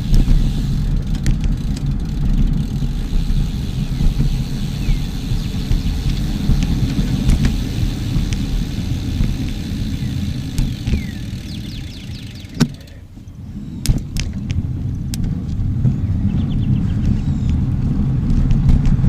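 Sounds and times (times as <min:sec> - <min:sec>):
bicycle clicks and rattles: 0:00.0 - 0:13.0, 0:13.8 - 0:16.1, 0:16.9 - 0:19.0
wind rumble on microphone: 0:00.0 - 0:19.0.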